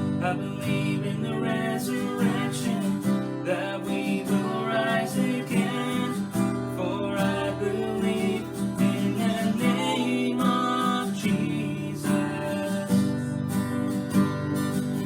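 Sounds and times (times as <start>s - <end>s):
worship song on acoustic guitar: 0.0s - 15.0s.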